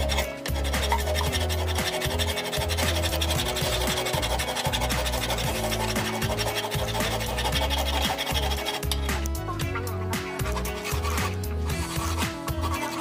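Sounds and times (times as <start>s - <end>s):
background music: 0.0s - 13.0s
file rasping on steel: 0.0s - 13.0s.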